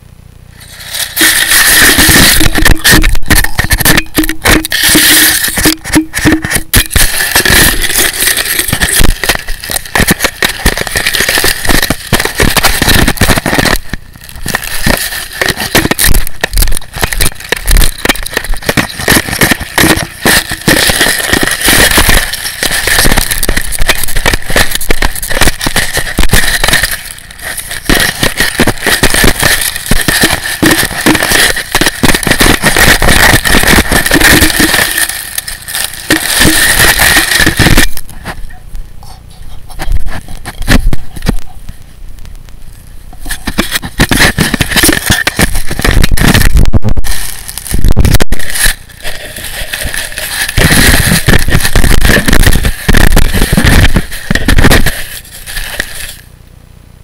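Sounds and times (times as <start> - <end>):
thin steady whine: 0.0 - 57.0.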